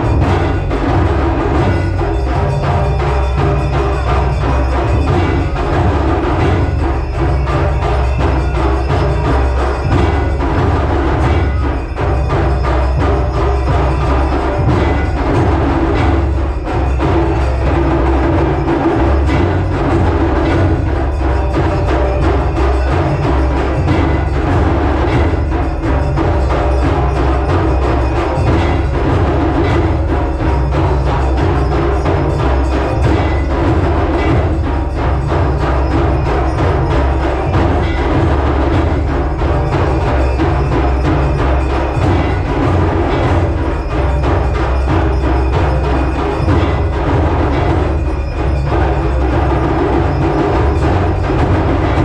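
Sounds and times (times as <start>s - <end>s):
temple drums beaten fast: 0.0s - 52.0s.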